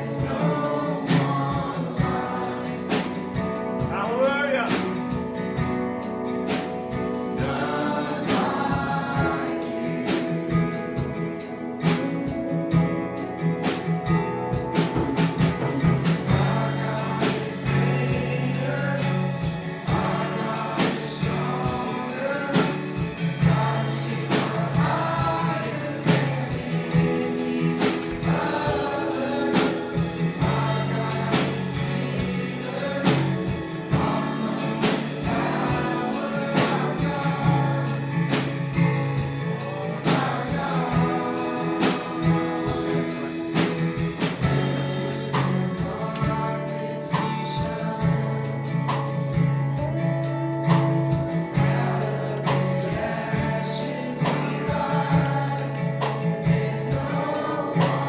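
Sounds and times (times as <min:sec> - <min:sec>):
band with beat bass and guitar: 0:00.0 - 0:58.0
group singing worship music: 0:00.0 - 0:58.0.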